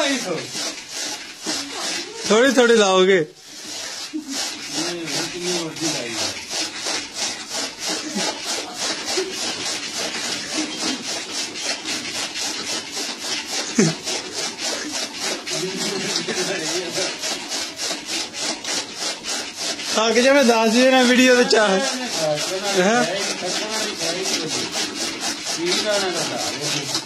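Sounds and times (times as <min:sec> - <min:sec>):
chaff cutter chopping fodder: 0:00.0 - 0:27.0.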